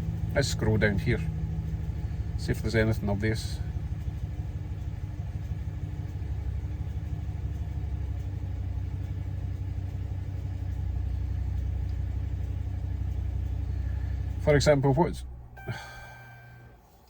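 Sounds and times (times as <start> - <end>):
misfiring engine idling: 0.0 - 16.8.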